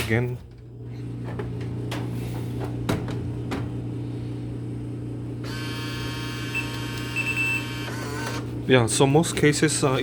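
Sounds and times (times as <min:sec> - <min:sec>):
vending machine electrical hum: 0:00.0 - 0:10.0.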